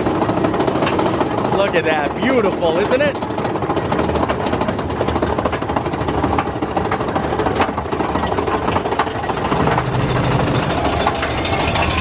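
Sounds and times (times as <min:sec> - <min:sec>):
roller coaster rattling on track: 0:00.0 - 0:12.0.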